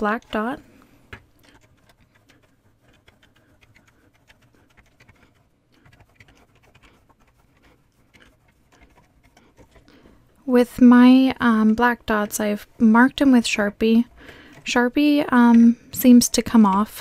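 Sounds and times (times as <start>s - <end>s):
yarn rustling on loom pegs: 0.0s - 17.0s.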